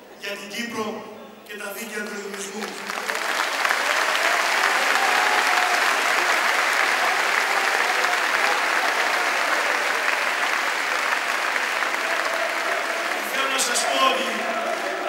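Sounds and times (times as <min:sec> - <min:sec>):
large audience applauding: 0:02.0 - 0:15.0.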